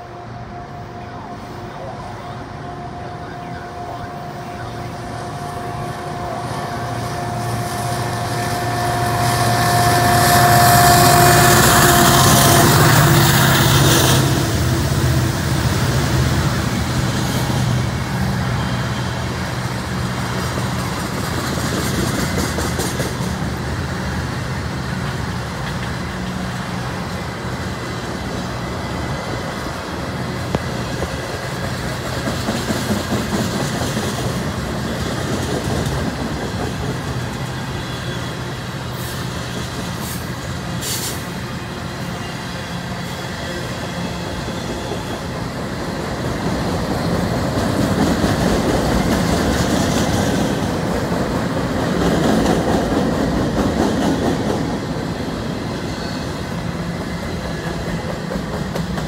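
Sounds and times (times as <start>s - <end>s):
diesel locomotive whine: 0.0s - 59.0s
train wheels rumbling on rail: 0.0s - 59.0s.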